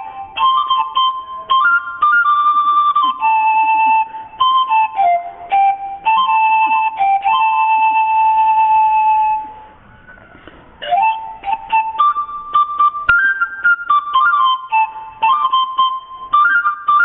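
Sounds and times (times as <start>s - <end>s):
panpipe slow melody: 0.0s - 10.0s, 10.8s - 17.0s.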